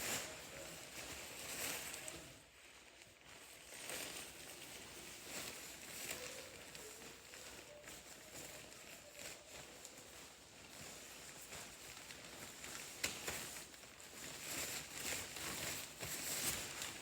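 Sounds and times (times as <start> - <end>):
fabric rustling: 0.0 - 17.0.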